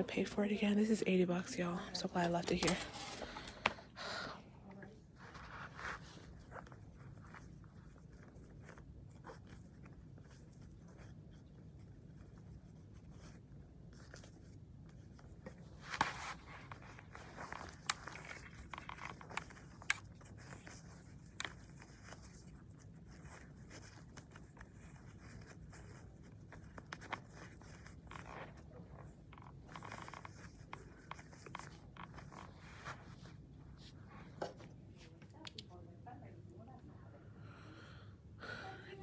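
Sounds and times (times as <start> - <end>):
shoelaces rustling and scraping: 0.0 - 35.8.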